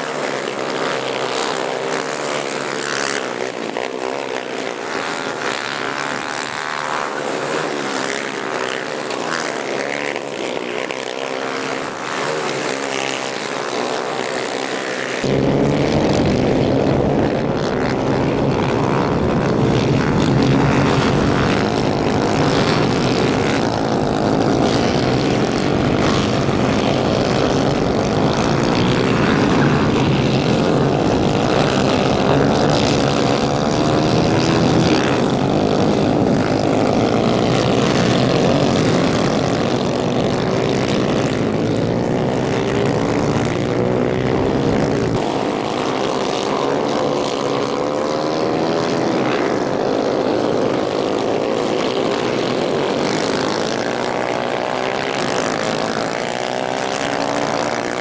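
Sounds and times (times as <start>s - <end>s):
racing kart engines: 0.0s - 58.0s.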